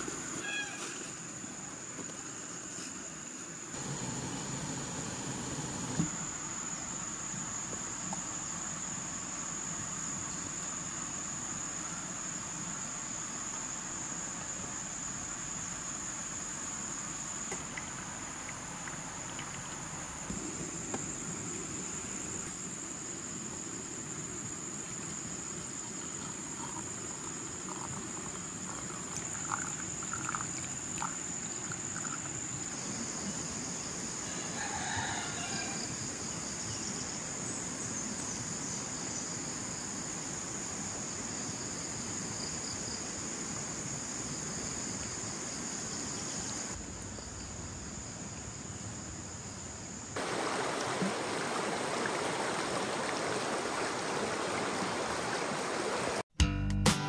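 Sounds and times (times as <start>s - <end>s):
crickets trilling: 0.0s - 56.2s.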